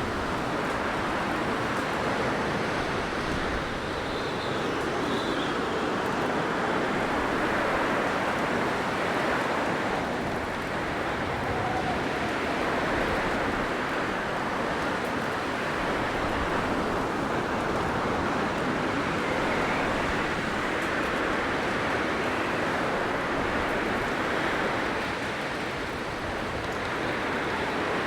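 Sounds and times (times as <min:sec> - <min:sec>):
blizzard wind rushing: 0:00.0 - 0:28.0.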